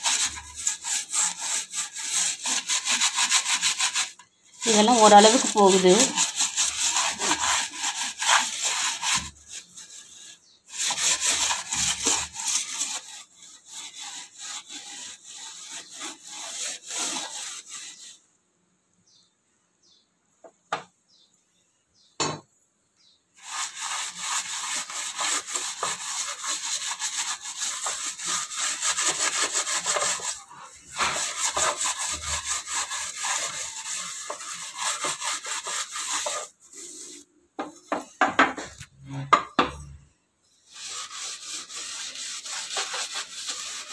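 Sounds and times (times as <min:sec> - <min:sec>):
steel wool scraping metal tray: 0:00.0 - 0:18.2, 0:23.4 - 0:43.9.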